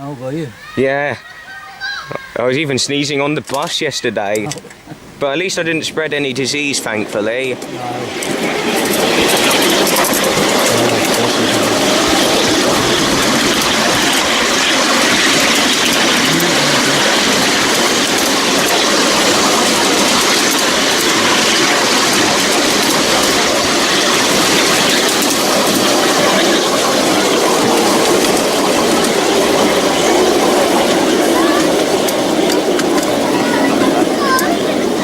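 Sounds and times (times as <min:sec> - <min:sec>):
train wheels rolling on rails: 0:02.6 - 0:35.0.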